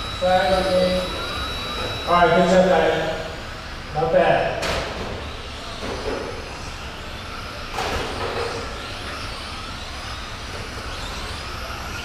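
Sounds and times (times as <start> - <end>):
rc truck motor whines: 0.0 - 12.0.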